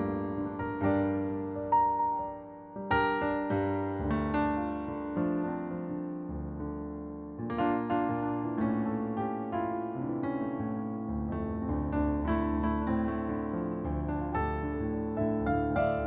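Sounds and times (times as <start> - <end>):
electric piano chords: 0.0 - 16.0.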